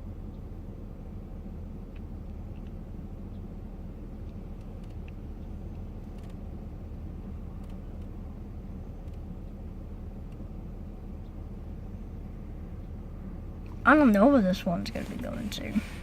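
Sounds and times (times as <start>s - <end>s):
airport background rumble: 0.0s - 16.0s.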